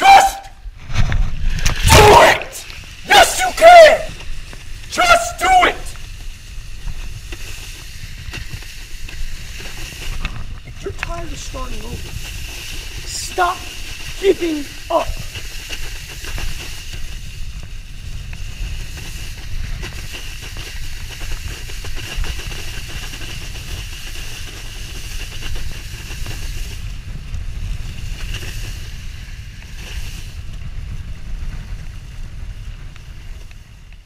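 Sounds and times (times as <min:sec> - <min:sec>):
board spray hiss: 0:00.0 - 0:33.9
wind buffeting microphone: 0:00.0 - 0:34.0.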